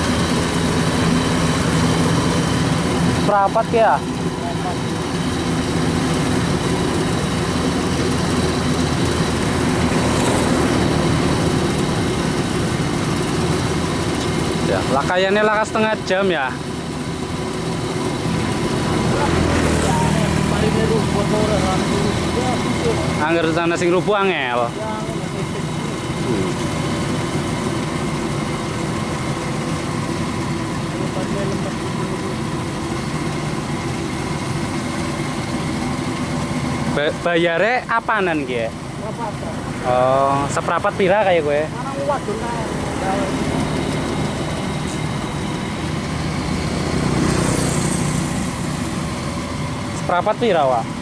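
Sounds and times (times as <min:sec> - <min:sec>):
combine harvester droning: 0:00.0 - 0:51.0
machinery whine: 0:00.0 - 0:51.0.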